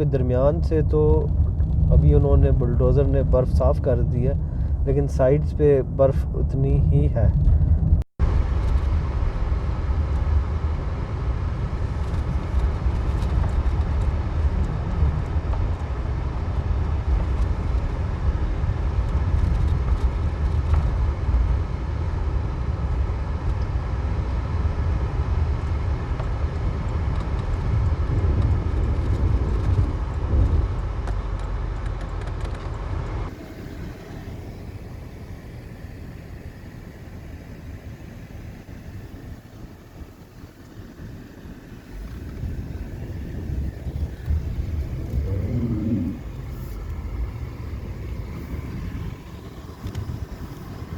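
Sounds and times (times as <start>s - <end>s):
car engine and tyre rumble: 0.0s - 50.9s.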